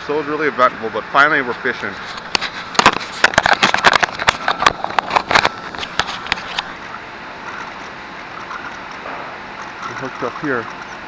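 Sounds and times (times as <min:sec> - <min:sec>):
steady outdoor noise: 0:00.0 - 0:11.0.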